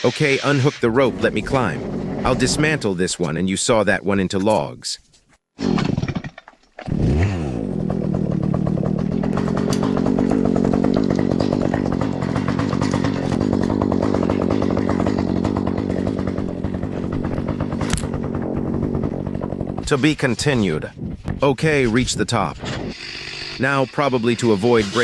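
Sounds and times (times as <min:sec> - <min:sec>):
chainsaw engine running: 0:00.0 - 0:03.0, 0:05.6 - 0:20.9, 0:21.8 - 0:25.0.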